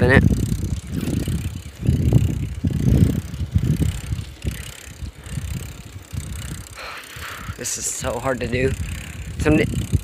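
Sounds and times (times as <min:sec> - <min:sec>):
bicycle rattling knocks: 0:00.0 - 0:10.0
bicycle rumble: 0:00.0 - 0:10.0.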